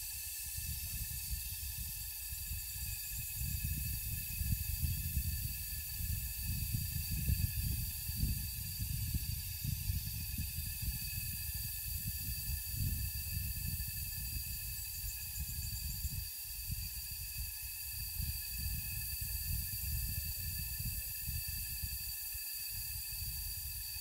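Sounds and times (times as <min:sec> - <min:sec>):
insect chorus: 0:00.0 - 0:24.0
wind rumble on microphone: 0:00.2 - 0:22.1, 0:22.7 - 0:24.0.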